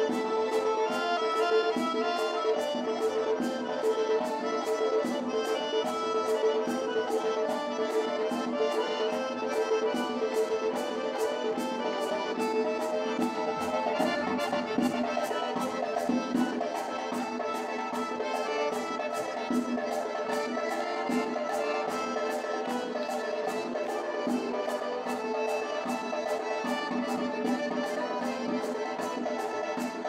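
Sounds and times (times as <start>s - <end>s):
accordion dance music: 0.0s - 30.0s
sharp steady beat: 0.0s - 30.0s.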